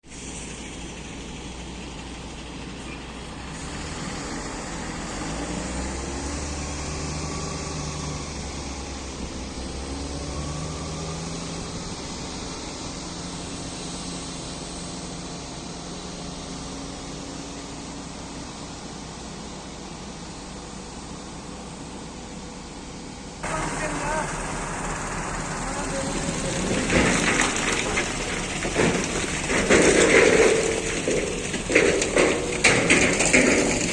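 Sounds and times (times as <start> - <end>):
diesel engine revving: 0.1 - 18.2, 23.4 - 33.9.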